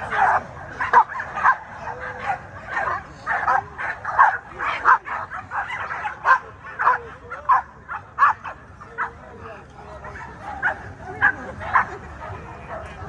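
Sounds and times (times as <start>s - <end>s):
dogs barking and yipping: 0.0s - 9.3s, 10.0s - 13.0s.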